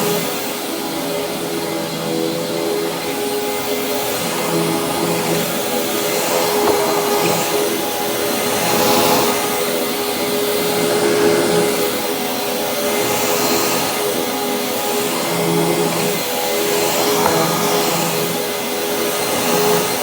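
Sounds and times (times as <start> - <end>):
upright vacuum cleaner running: 1.1 - 9.4, 10.3 - 20.0.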